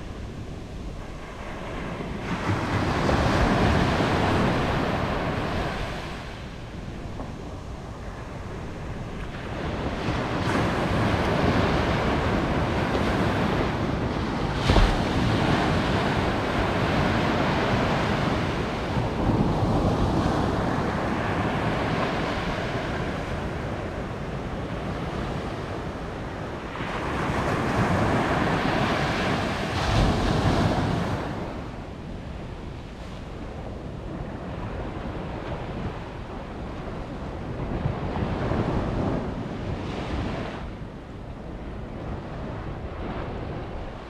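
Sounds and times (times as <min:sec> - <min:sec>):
small waves washing up beach: 0:00.0 - 0:44.0
wind buffeting microphone: 0:00.0 - 0:44.0.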